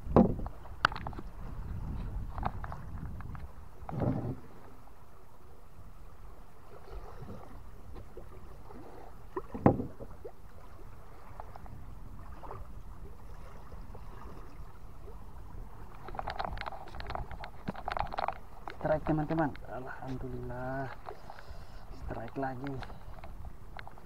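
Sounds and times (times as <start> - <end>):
low wind: 0.0 - 24.0
water washing around boat: 0.0 - 24.0.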